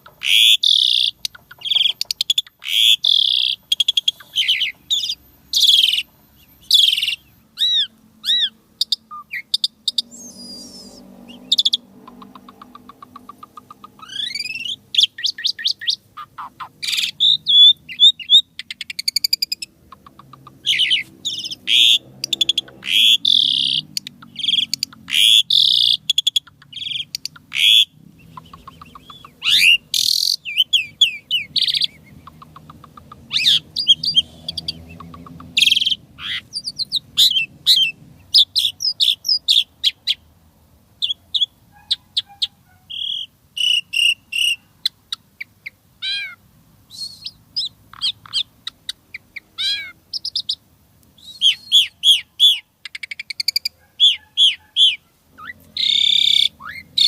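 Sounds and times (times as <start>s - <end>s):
starling singing: 0.0s - 40.2s, 41.0s - 50.6s, 51.2s - 57.0s.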